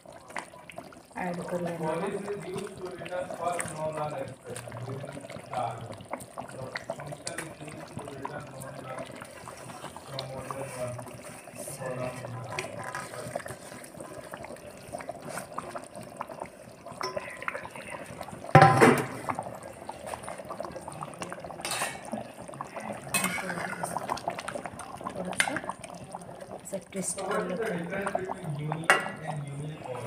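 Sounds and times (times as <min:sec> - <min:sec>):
curry bubbling in a pan: 0:00.0 - 0:30.0.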